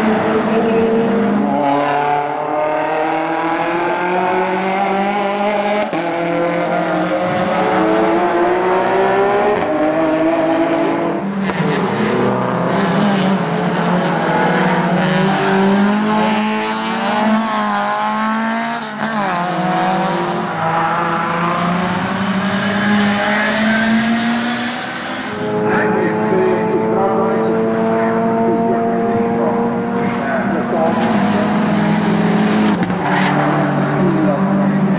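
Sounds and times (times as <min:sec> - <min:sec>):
race car engines at full throttle: 0:00.0 - 0:34.9.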